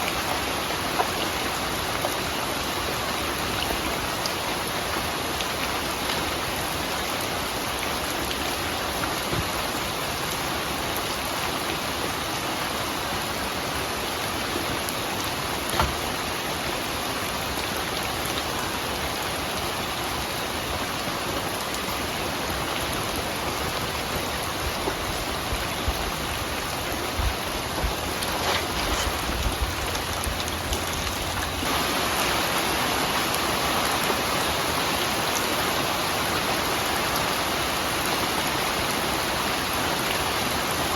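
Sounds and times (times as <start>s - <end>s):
raindrops pattering and knocking: 0.0s - 40.9s
steady rainfall: 0.0s - 40.9s.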